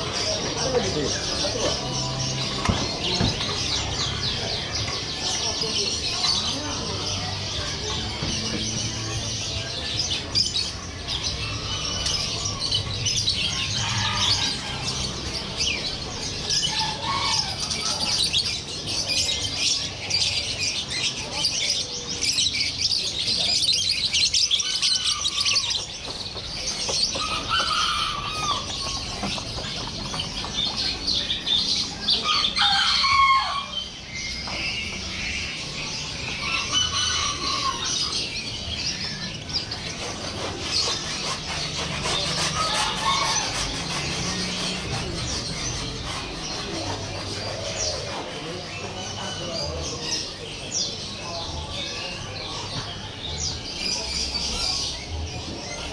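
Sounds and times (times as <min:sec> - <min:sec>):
birds chirping and twittering: 0:00.0 - 0:55.9.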